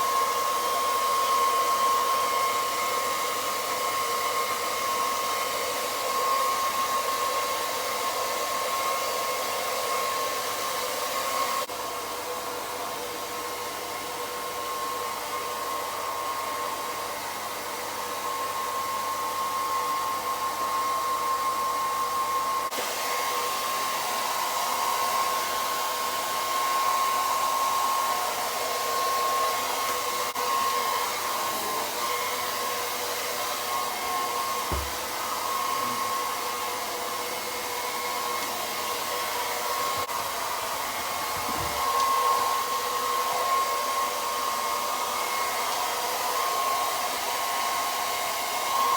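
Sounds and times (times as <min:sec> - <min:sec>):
hair dryer whining: 0:00.0 - 0:48.9.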